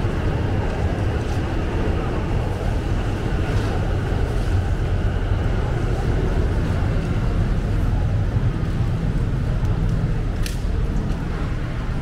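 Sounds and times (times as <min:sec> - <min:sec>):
low city rumble: 0:00.0 - 0:12.0.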